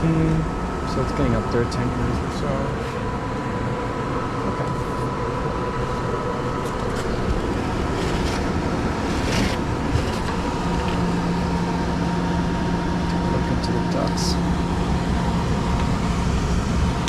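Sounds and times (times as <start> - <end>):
hvac blower rumble: 0.0 - 17.0.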